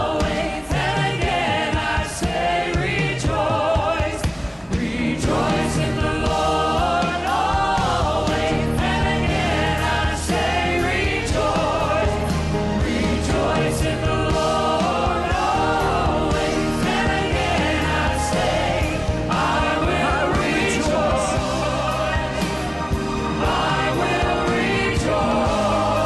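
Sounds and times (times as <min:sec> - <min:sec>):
choir and congregation singing: 0:00.0 - 0:26.0
band playing: 0:04.7 - 0:26.0.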